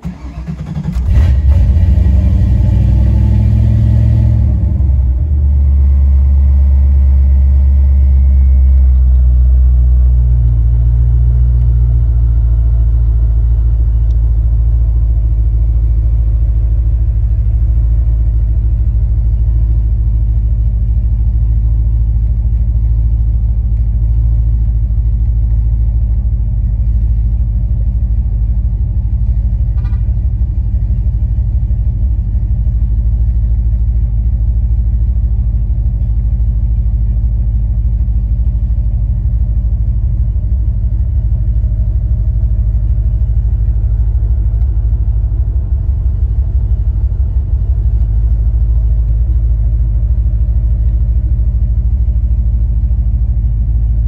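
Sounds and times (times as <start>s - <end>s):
car engine starting and idling: 0.0s - 54.0s.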